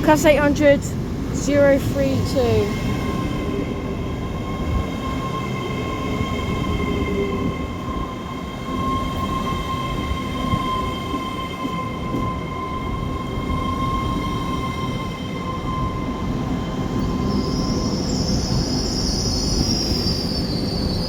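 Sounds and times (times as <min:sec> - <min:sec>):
high train whine: 0:00.0 - 0:21.0
train rumbling: 0:00.0 - 0:21.0.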